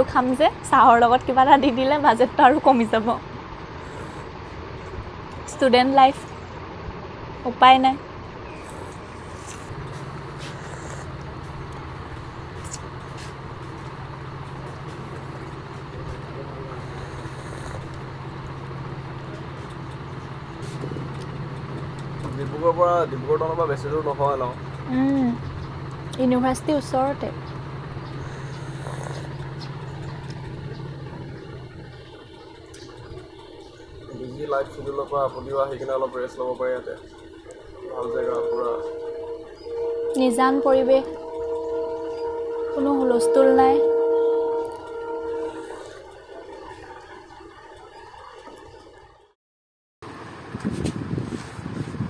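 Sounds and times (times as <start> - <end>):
motor humming: 0.0 - 49.3.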